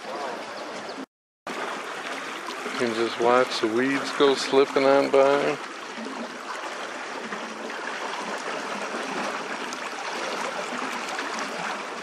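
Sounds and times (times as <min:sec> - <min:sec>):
paddle wheel splashing water: 0:00.0 - 0:12.0.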